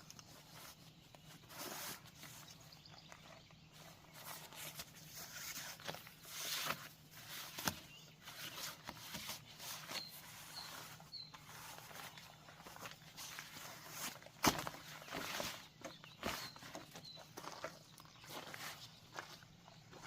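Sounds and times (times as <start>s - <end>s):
camping gear rustling and knocking: 0.0s - 20.0s.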